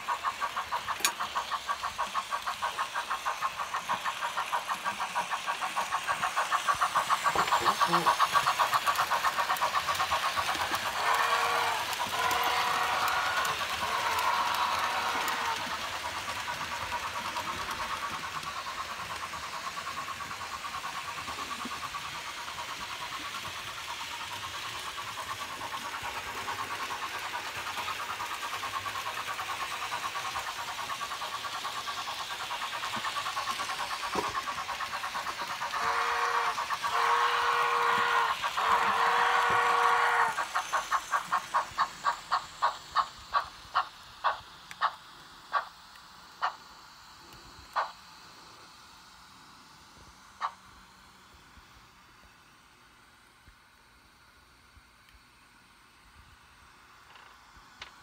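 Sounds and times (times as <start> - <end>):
model steam locomotive chuffing: 0.0 - 58.0.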